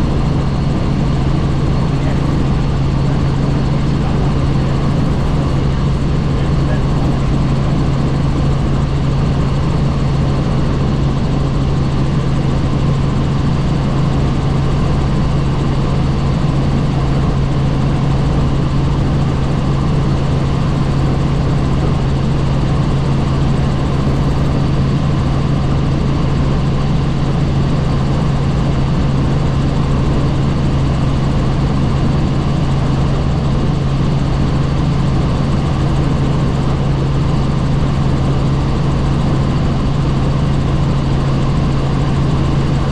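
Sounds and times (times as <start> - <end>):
helicopter hum and rush: 0.0 - 42.9.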